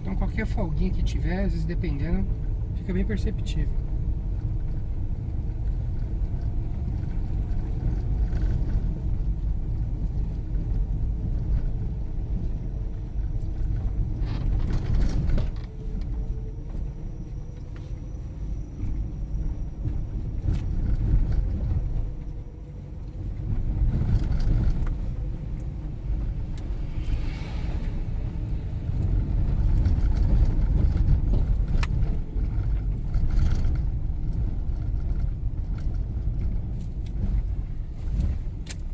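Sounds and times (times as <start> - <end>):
tyres rumbling on cobblestones: 0.0 - 38.9.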